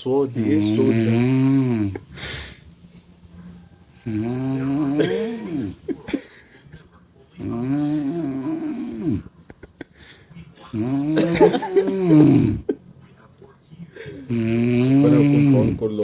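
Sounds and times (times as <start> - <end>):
woman snoring loudly: 0.2 - 6.6, 7.4 - 12.8, 14.0 - 16.0
soft breathing: 0.3 - 16.0.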